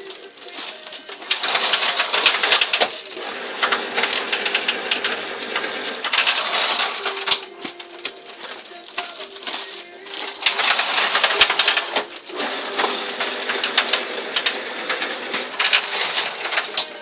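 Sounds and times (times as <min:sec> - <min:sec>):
machine humming: 0:00.0 - 0:17.0
machine clattering rattle: 0:00.1 - 0:17.0.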